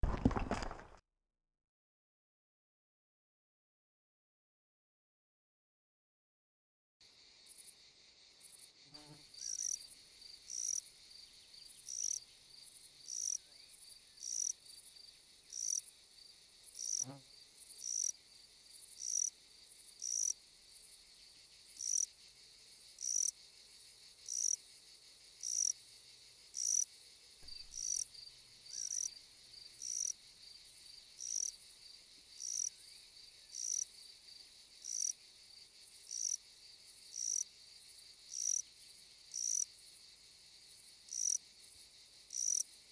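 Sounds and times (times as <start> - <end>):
insect chirping: 7.0 - 42.9.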